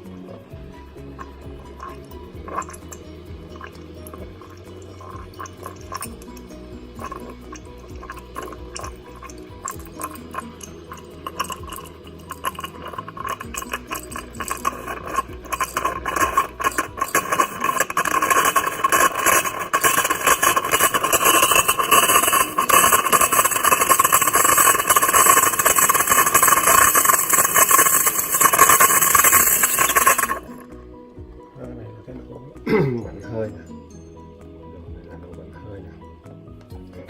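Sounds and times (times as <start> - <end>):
espresso steam wand hissing: 0.5 - 30.8.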